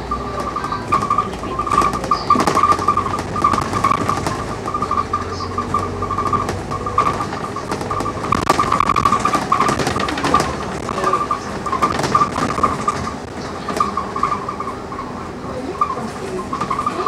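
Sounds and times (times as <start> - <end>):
high whine: 0.0 - 16.0
bus engine humming: 0.0 - 17.0
cabin rattles and clicks: 0.1 - 17.0.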